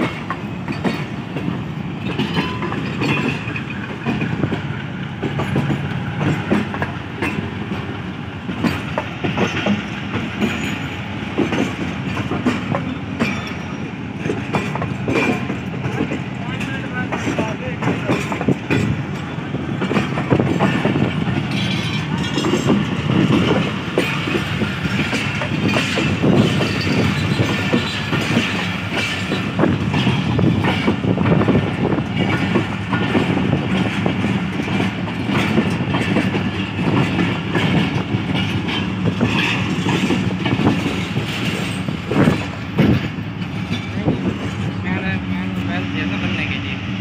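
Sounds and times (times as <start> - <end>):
train rumble: 0.0 - 47.0
train wheels clacking over rail joints: 0.0 - 47.0.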